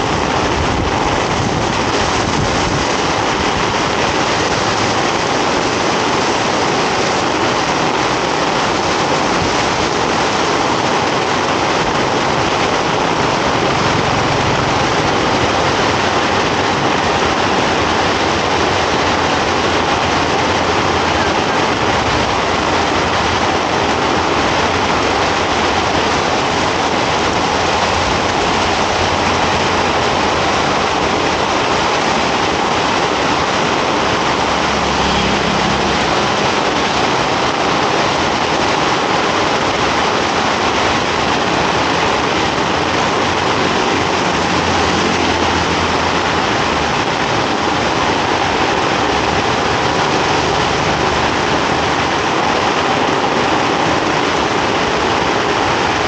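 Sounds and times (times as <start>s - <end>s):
heavy rain on a street: 0.0s - 56.0s
vehicle engine rumbling: 0.0s - 56.0s.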